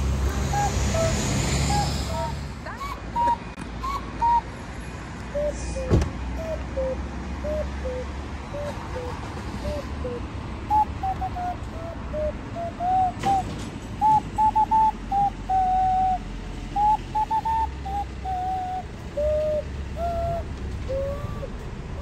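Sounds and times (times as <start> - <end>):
hand whistle tune: 0.5 - 4.5, 5.4 - 16.2, 16.8 - 21.6.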